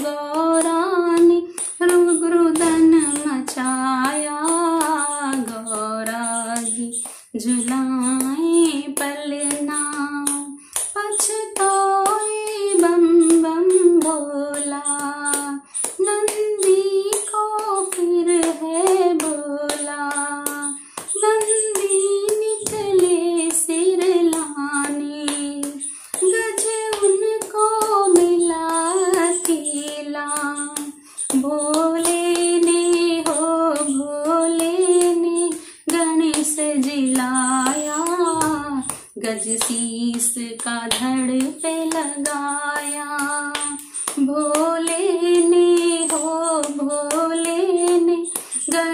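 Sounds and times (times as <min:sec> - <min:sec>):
hand claps: 0:00.0 - 0:48.9
woman singing: 0:00.0 - 0:48.9.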